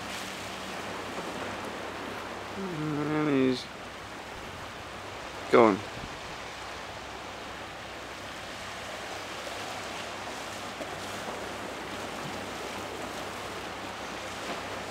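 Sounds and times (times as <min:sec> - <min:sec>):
sea and wind along the shore: 0:00.0 - 0:14.9.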